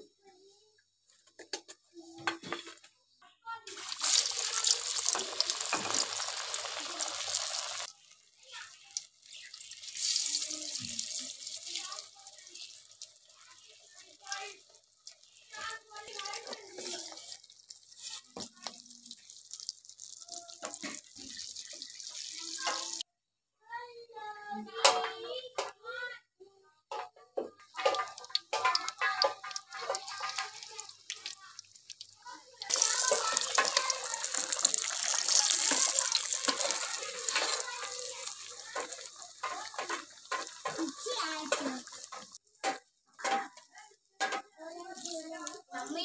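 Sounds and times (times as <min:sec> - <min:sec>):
water running from tap: 0:03.7 - 0:23.0, 0:27.7 - 0:46.0.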